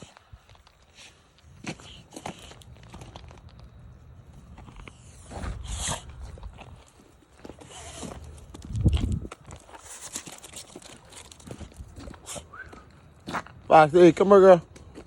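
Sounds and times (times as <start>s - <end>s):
footsteps crunching through snow: 0.0s - 13.7s.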